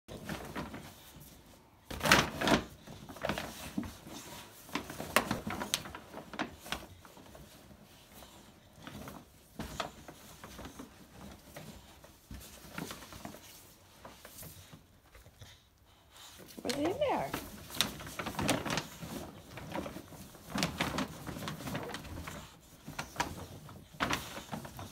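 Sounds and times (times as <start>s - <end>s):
paper bag crinkling: 0.1s - 14.8s, 16.6s - 24.9s.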